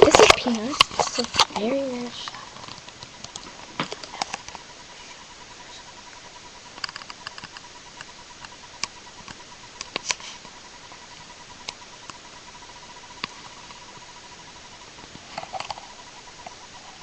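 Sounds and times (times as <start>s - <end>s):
faint high pulsing tone: 0.0s - 17.0s
steady hiss: 0.0s - 17.0s.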